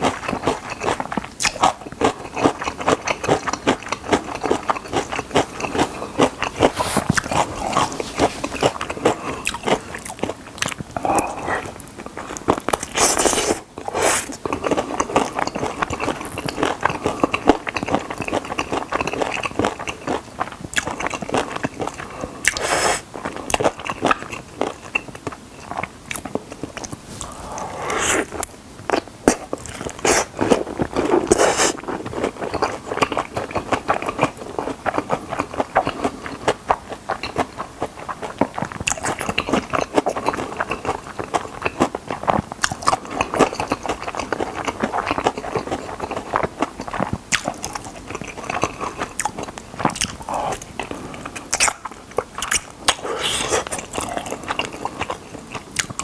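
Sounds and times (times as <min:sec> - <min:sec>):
wet chewing: 0:00.0 - 0:56.0.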